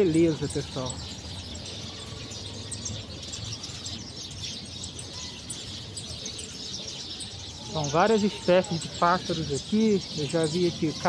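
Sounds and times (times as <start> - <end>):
flock of small birds chirping: 0.0 - 11.0.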